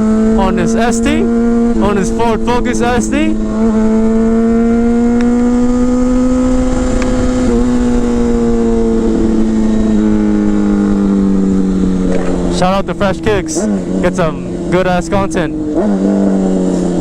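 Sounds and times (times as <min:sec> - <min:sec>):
motorcycle engine cruising: 0:00.0 - 0:12.6, 0:13.5 - 0:17.0.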